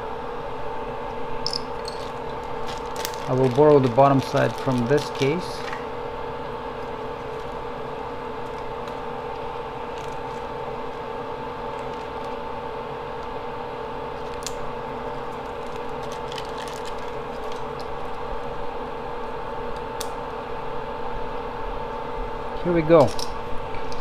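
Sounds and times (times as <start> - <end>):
workbench equipment humming: 0.0 - 24.0.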